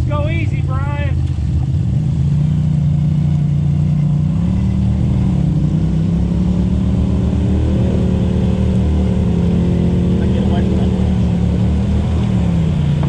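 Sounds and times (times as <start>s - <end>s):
utility vehicle engine under load: 0.8s - 13.0s.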